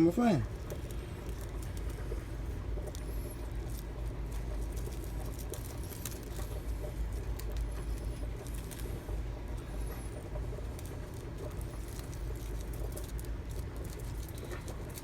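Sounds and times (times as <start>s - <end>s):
light clicks and crackles: 0.0s - 15.0s.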